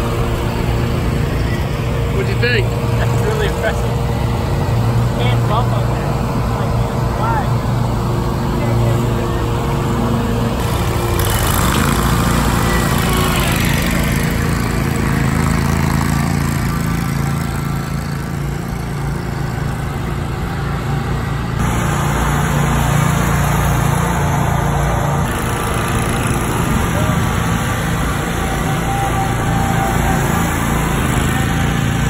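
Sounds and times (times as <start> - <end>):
mower engines running: 0.0 - 32.0.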